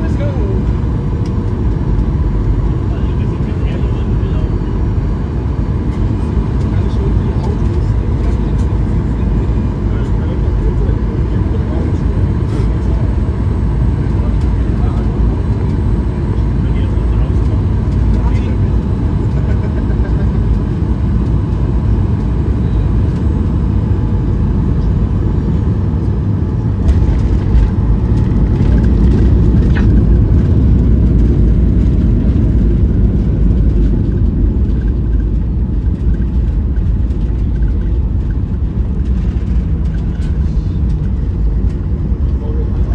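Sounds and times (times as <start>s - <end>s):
jet engine cabin rumble: 0.0s - 42.9s.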